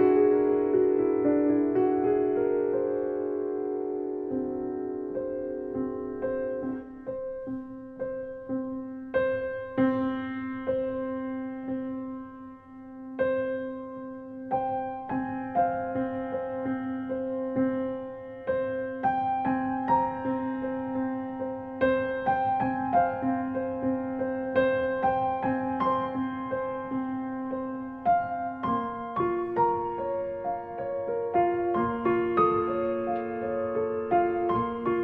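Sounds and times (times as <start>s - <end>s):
slow soft piano notes: 0.0s - 35.0s.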